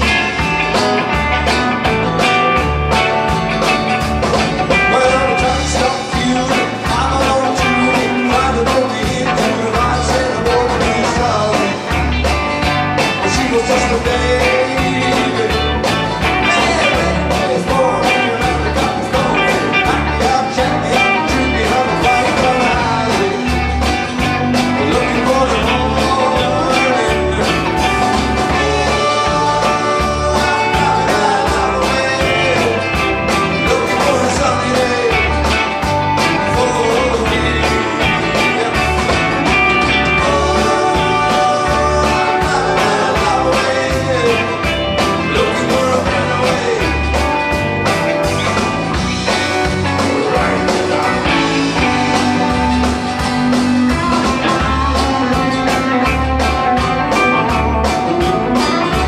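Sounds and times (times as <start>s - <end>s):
drum kit beat: 0.0s - 59.0s
electric guitars: 0.0s - 59.0s
man singing: 4.6s - 59.0s.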